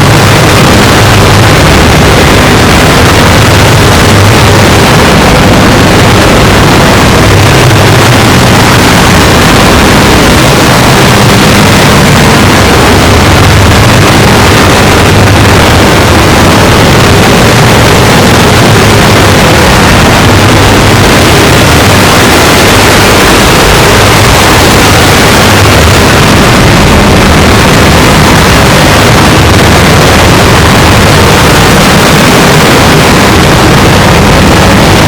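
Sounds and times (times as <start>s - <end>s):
heavily distorted noise with drone: 0.0s - 35.0s.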